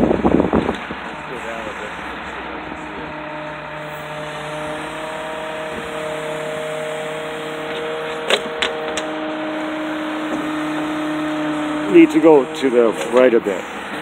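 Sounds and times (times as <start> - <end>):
hydraulic boom humming: 0.0 - 14.0.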